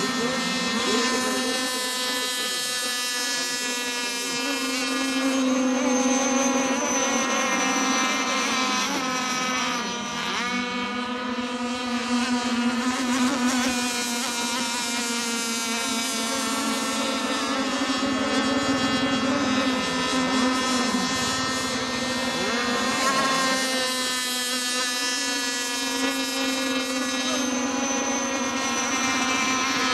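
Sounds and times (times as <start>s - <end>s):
model boat motors buzzing: 0.0s - 29.9s.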